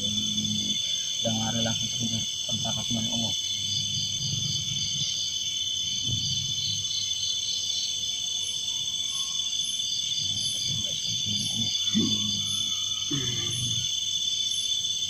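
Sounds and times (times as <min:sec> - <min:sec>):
crickets and insects droning: 0:00.0 - 0:15.0.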